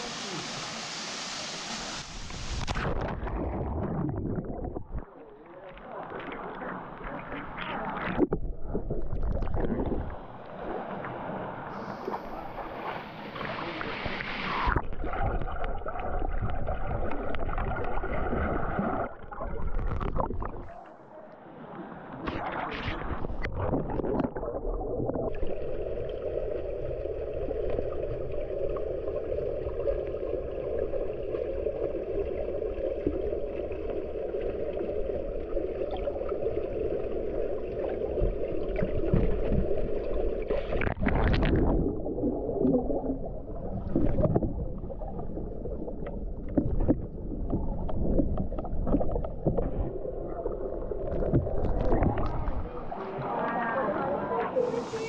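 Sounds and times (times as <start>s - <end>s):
muffled underwater rushing water: 0.0s - 55.0s
water splashing and sloshing: 1.4s - 21.0s, 22.1s - 55.0s.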